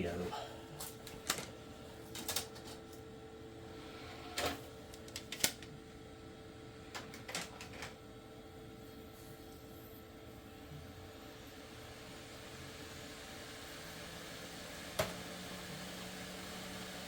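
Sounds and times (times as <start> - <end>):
faint steady hum: 0.0 - 14.8.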